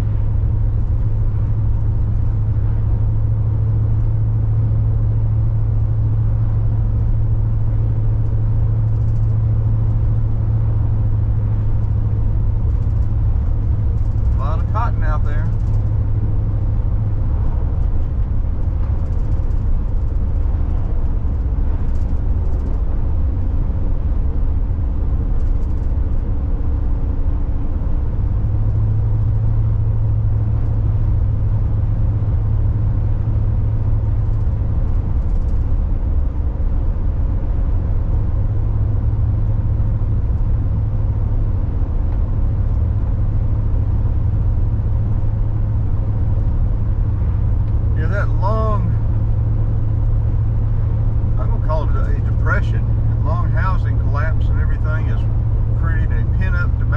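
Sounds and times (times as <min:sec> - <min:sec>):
car engine and tyre rumble: 0:00.0 - 0:56.9
road noise: 0:00.0 - 0:56.9.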